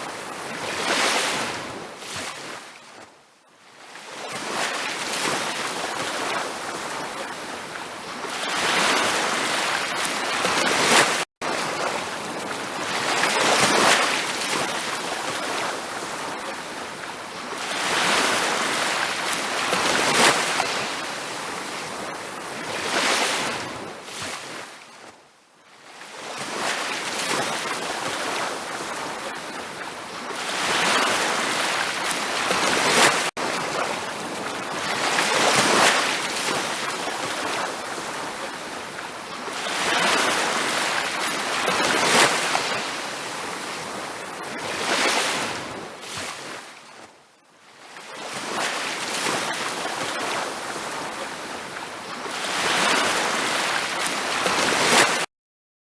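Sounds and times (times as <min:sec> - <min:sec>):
ocean surf breaking on beach: 0:00.0 - 0:03.0, 0:03.8 - 0:25.1, 0:25.8 - 0:47.1, 0:47.9 - 0:55.3.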